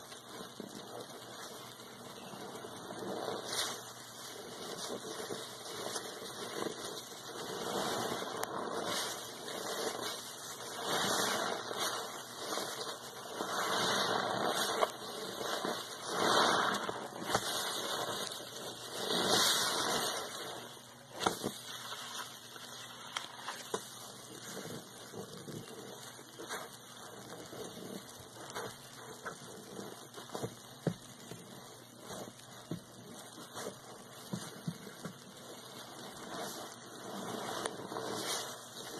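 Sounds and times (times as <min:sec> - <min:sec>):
sponge squelching in foamy water: 0:00.0 - 0:38.9.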